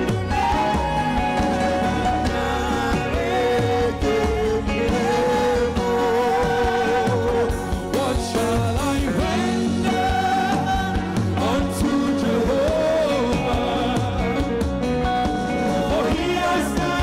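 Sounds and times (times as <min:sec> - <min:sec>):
backing singers: 0:00.0 - 0:17.0
gospel band music: 0:00.0 - 0:17.0
man singing: 0:00.0 - 0:17.0.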